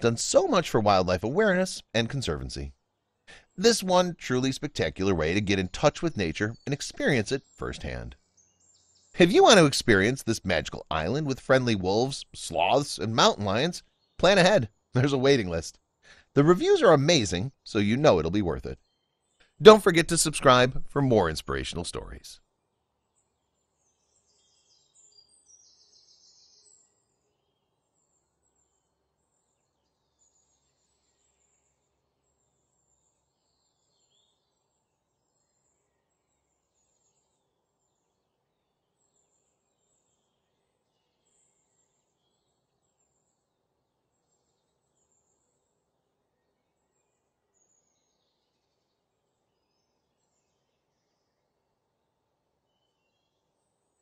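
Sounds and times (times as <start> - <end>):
faint high bird chirps: 3.3 - 22.3, 23.2 - 52.0, 52.6 - 54.0.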